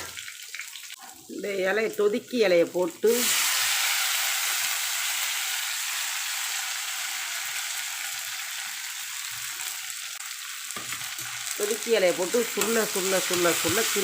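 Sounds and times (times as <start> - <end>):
leaves sizzling in hot oil: 0.0 - 14.0.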